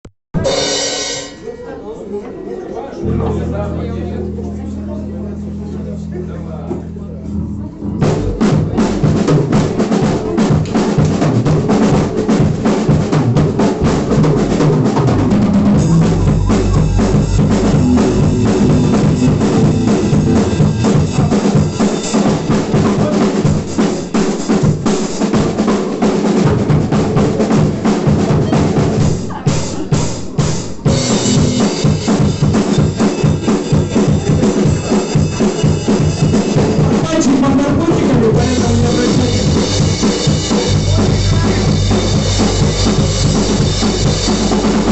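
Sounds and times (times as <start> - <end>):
live rock band playing: 3.0 - 44.9
bass drum and snare beat: 7.9 - 23.9, 24.5 - 44.9.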